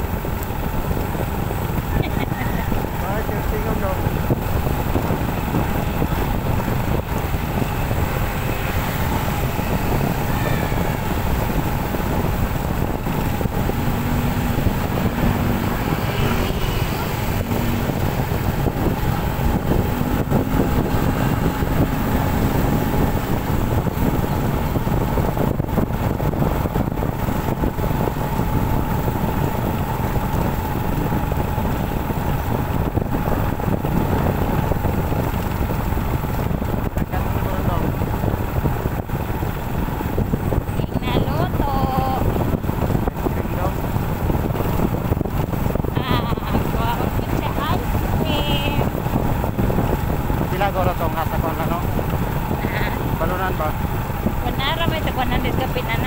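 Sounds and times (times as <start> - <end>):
motorcycle engine drone: 0.0 - 56.0
wind rushing over microphone: 0.0 - 56.0.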